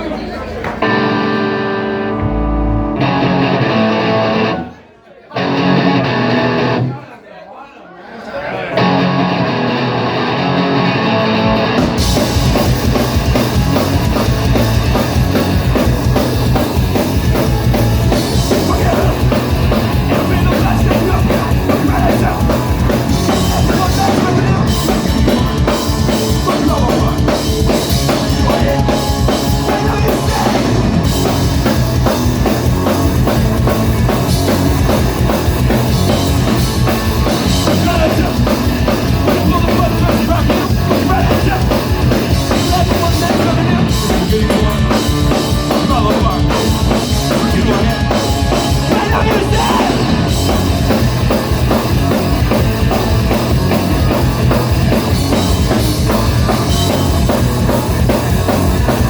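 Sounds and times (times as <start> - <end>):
punk rock band playing: 0.2 - 7.0, 8.7 - 59.0.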